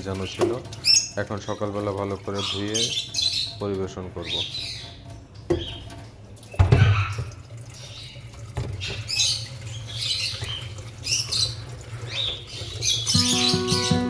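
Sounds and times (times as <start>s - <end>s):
water splashing in a bowl: 0.0s - 14.0s.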